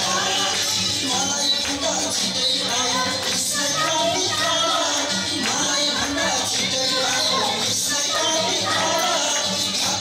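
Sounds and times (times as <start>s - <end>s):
dance music with singing: 0.0s - 10.0s.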